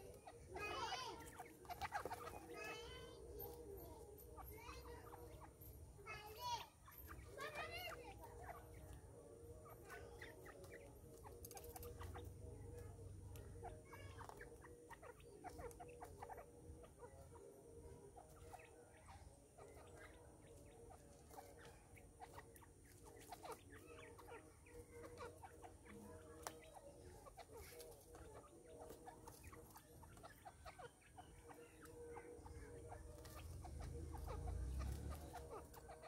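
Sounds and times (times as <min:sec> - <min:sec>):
francolins clucking: 0:00.0 - 0:36.0.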